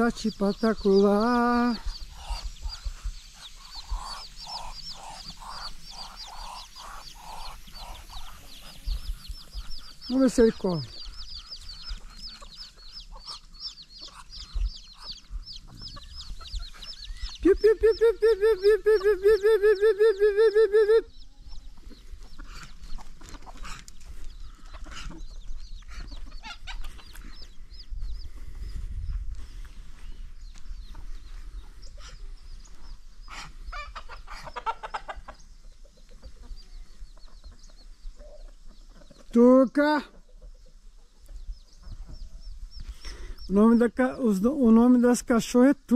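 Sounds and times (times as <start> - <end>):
chicks peeping: 0.0 - 45.8.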